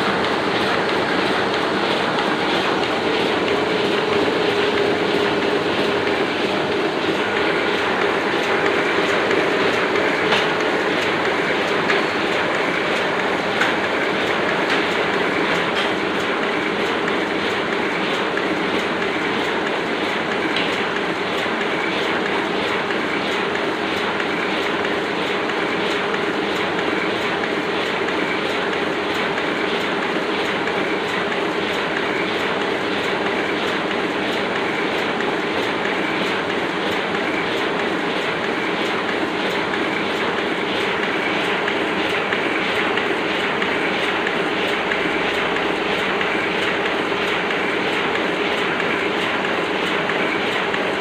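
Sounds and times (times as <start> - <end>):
printing press clattering: 0.0 - 51.0.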